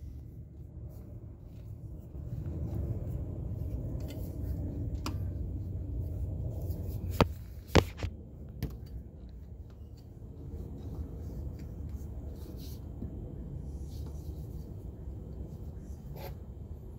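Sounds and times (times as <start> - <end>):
steady low rumble: 0.0 - 16.9.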